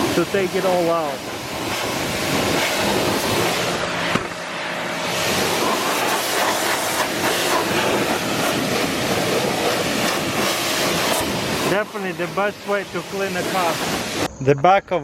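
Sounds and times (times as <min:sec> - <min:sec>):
pressure washer spraying: 0:00.0 - 0:14.3.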